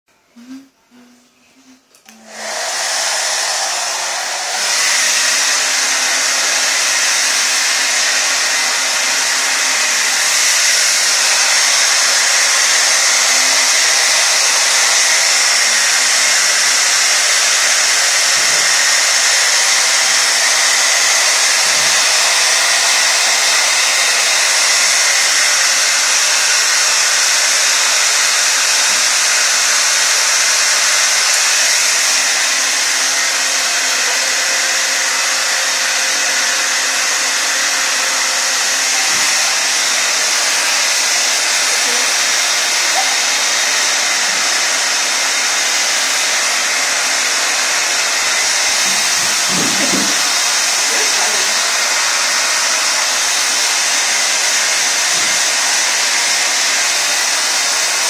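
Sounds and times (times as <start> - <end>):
hair dryer blowing: 2.0 - 58.0.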